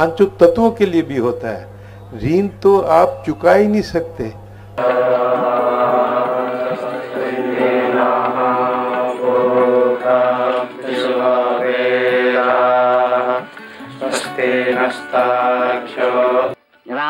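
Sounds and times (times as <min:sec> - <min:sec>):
devotional chanting music: 0:00.0 - 0:17.0.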